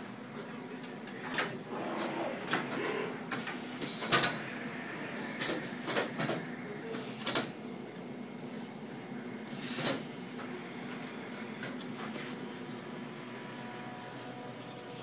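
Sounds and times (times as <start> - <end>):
conveyor dryer humming: 0.0 - 15.0.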